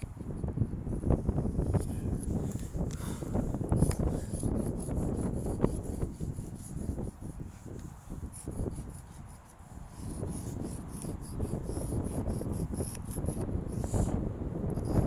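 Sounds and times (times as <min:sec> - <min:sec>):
wind rumbling on microphone: 0:00.0 - 0:15.0
chalk scraping: 0:01.0 - 0:15.0.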